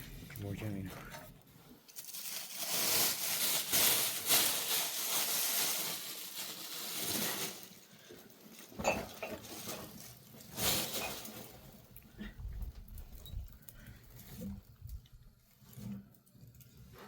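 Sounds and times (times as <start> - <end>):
material rustling and crinkling: 0.0 - 17.0.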